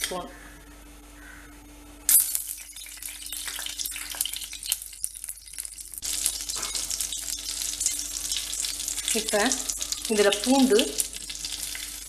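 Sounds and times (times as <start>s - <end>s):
butter and oil sizzling in a pan: 2.1s - 12.0s.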